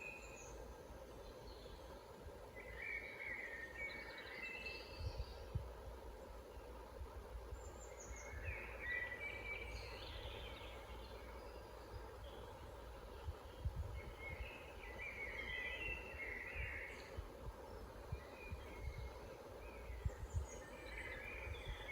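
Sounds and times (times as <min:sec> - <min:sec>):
low rumbling background noise: 0:00.0 - 0:21.9.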